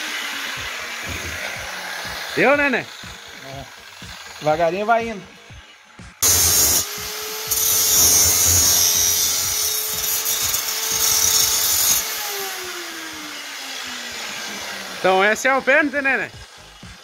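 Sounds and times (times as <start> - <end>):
grinder motor spinning down: 0.0 - 5.0, 6.2 - 17.0
angle grinder grinding steel: 0.0 - 5.4, 6.2 - 17.0.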